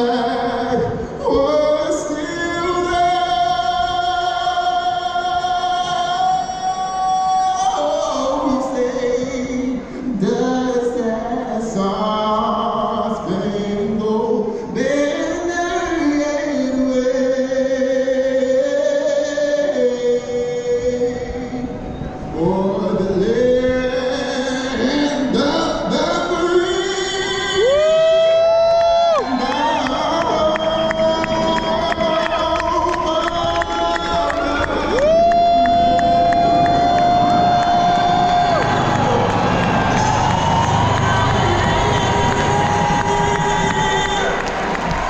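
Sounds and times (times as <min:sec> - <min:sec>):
stadium crowd singing slowly: 0:00.0 - 0:45.0.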